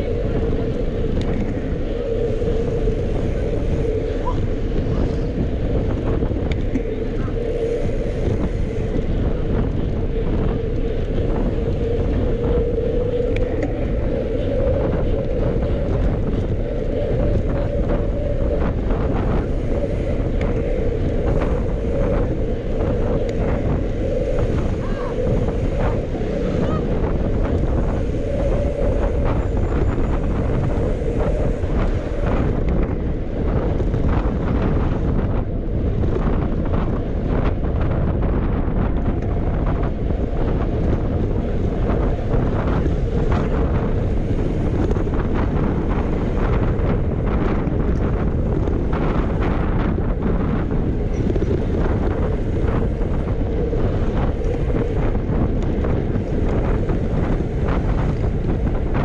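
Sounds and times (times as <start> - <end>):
steady bicycle riding hum: 0.0 - 59.0
wind buffeting microphone: 0.0 - 59.0.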